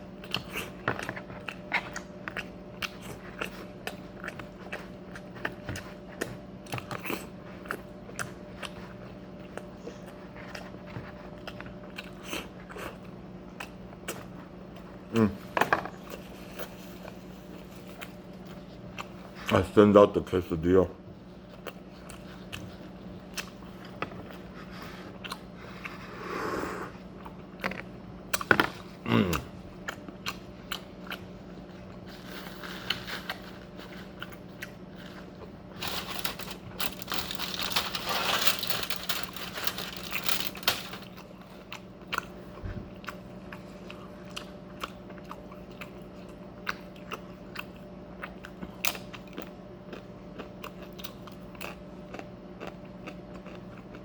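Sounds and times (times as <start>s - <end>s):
faint steady hum: 0.0s - 54.0s
person chewing and crunching food: 0.0s - 54.0s.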